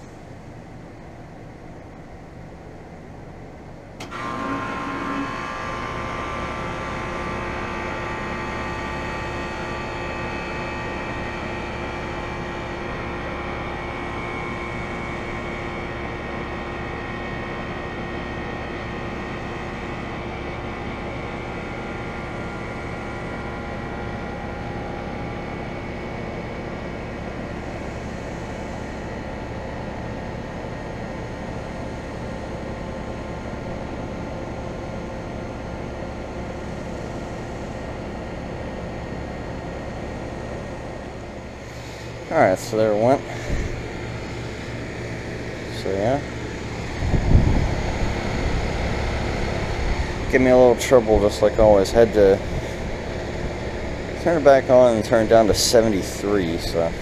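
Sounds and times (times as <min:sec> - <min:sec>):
air conditioner unit humming: 0:00.0 - 0:57.0.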